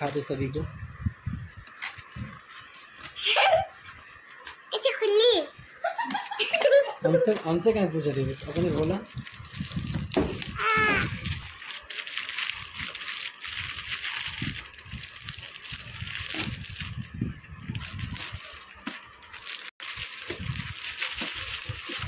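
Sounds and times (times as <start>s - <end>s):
plastic gift wrap crinkling: 1.6s - 5.5s, 6.1s - 22.0s.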